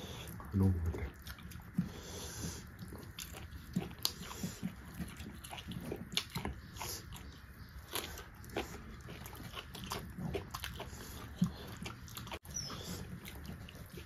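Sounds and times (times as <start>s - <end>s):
people chewing with mouth smacks: 0.0s - 14.0s
clicks and crackles of food: 0.3s - 14.0s.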